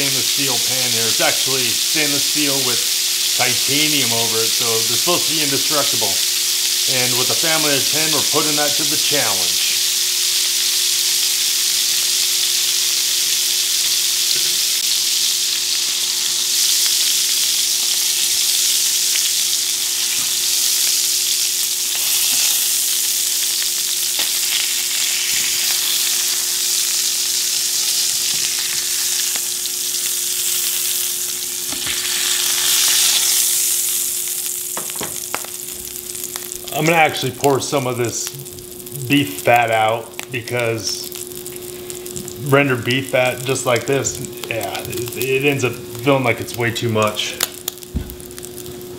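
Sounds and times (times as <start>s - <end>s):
burger patties sizzling in a pan: 0.0s - 48.9s.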